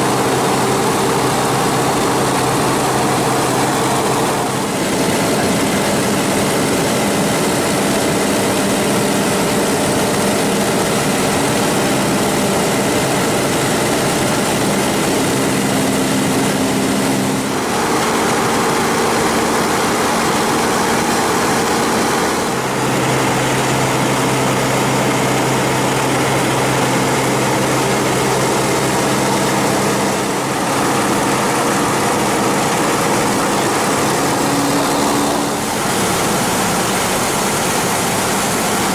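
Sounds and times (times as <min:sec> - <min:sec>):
propeller engine droning: 0:00.0 - 0:38.9.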